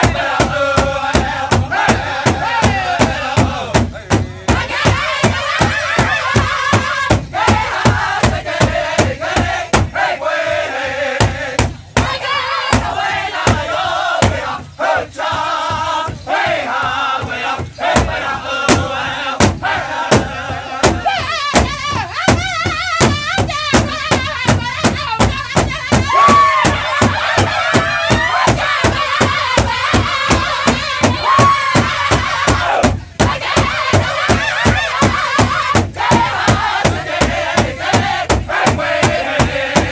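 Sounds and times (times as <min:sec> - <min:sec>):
group singing in high voices: 0:00.0 - 0:39.9
large hide drum beating: 0:00.0 - 0:39.9.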